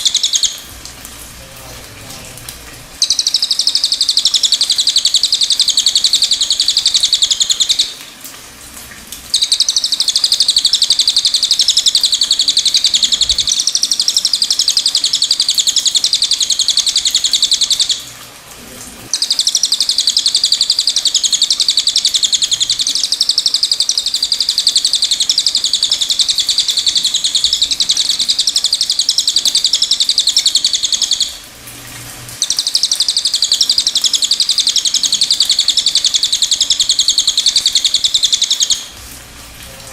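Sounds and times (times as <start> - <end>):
bird twittering song: 0.0 - 0.6, 3.0 - 8.0, 9.3 - 18.0, 19.1 - 31.4, 32.4 - 38.9.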